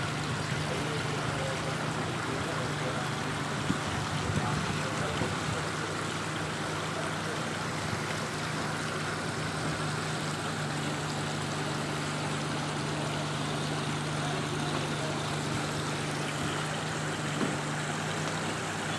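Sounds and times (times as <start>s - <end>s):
fountain water splashing: 0.0s - 18.9s.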